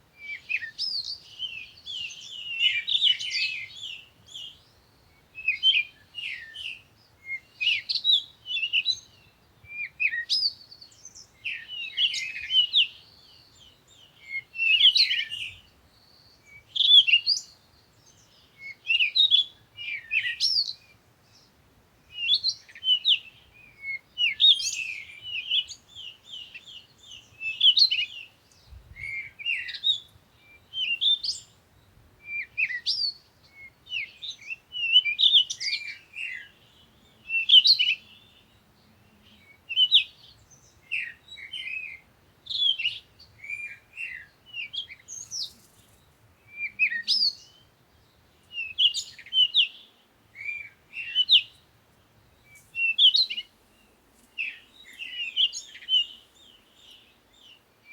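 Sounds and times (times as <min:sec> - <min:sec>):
songbirds twittering: 0:00.2 - 0:57.9.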